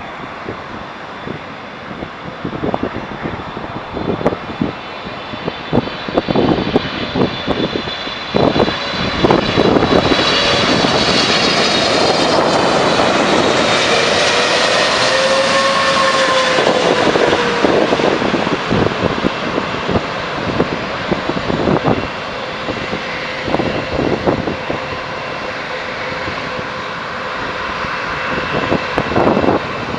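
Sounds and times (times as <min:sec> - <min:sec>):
high fan whine: 0:00.0 - 0:25.1
jet engines roaring on landing: 0:00.0 - 0:29.9.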